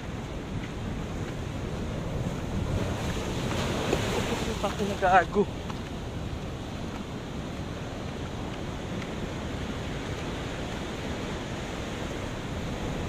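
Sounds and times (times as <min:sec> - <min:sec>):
sea surf breaking against rocks: 0:00.0 - 0:13.0
wind rumbling on microphone: 0:00.0 - 0:13.0.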